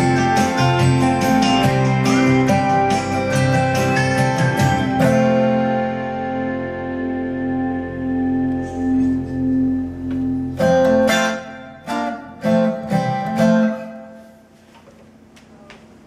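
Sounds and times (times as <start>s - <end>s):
acoustic guitar chords: 0.0s - 14.7s.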